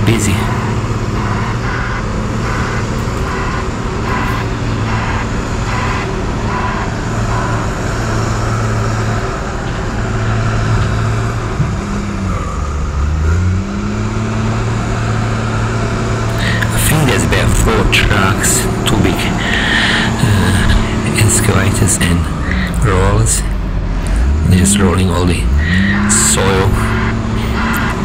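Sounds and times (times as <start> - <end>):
diesel machinery engines humming: 0.0 - 28.0
engine revving: 0.0 - 28.0.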